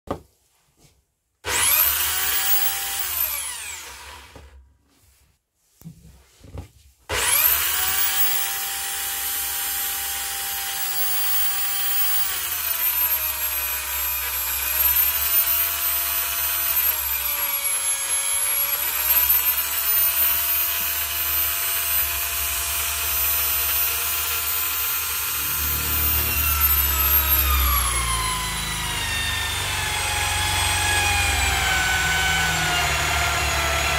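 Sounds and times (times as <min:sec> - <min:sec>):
electric drill whining: 0:01.4 - 0:04.6, 0:07.1 - 0:33.9
drill bit cutting wood: 0:01.5 - 0:04.4, 0:07.1 - 0:33.9.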